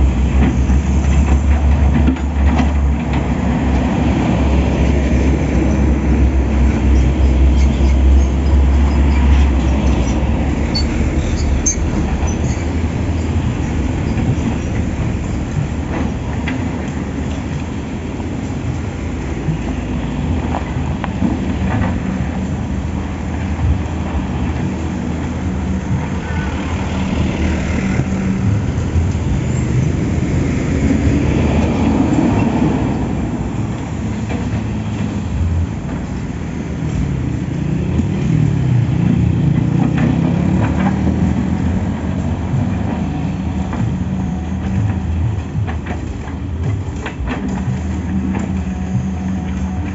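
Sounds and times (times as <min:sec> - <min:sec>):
excavator diesel engine rumbling: 0:00.0 - 0:49.9.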